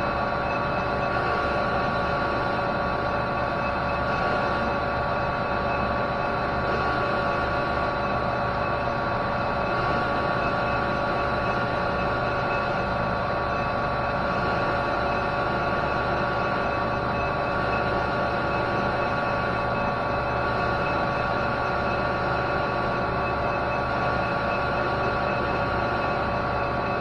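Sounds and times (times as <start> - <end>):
metal lathe running: 0.0 - 27.0.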